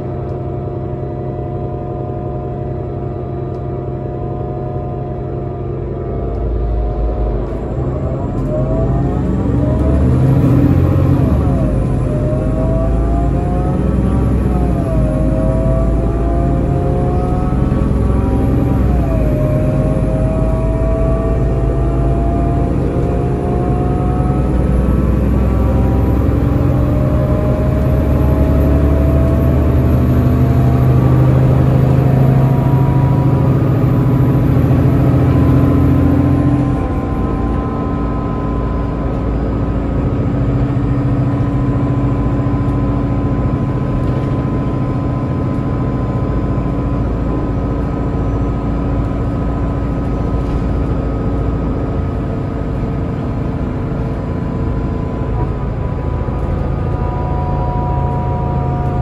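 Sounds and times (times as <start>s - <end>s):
bus drive whine: 0.0s - 59.0s
bus engine pulling: 0.0s - 59.0s.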